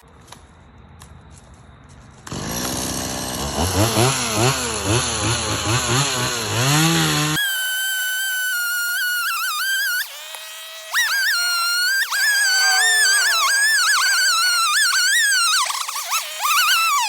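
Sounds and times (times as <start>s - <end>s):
chainsaw revving cutting log: 2.3s - 17.0s.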